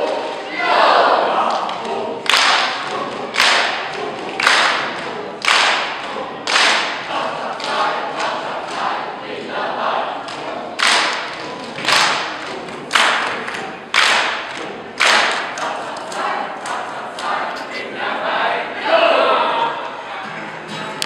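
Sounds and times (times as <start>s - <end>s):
choir singing: 0.0s - 21.0s
rhythmic percussive hits: 1.3s - 18.2s, 20.2s - 21.0s.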